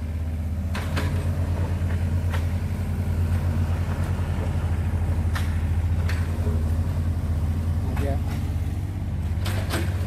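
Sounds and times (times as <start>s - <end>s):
compactor engine running: 0.0s - 10.0s.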